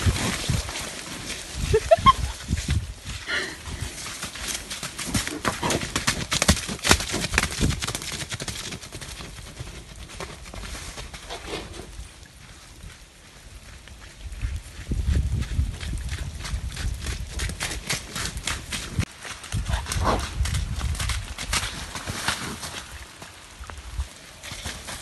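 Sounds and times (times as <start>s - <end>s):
heavy footfalls on wet ground: 0.0s - 11.2s, 12.0s - 25.0s
rustling leaves and branches: 0.0s - 25.0s.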